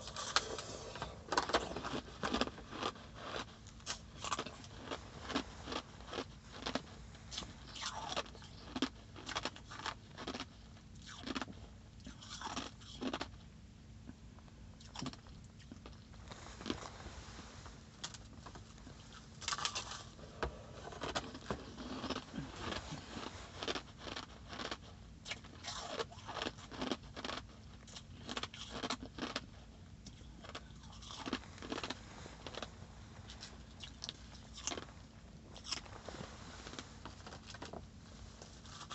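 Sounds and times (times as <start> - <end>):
ice crunching being chewed: 0.0 - 13.5, 14.4 - 17.1, 18.0 - 38.9.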